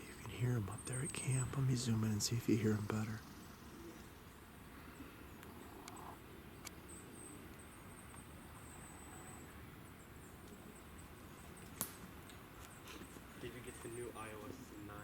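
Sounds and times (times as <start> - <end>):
faint woodland ambience: 0.0 - 15.0.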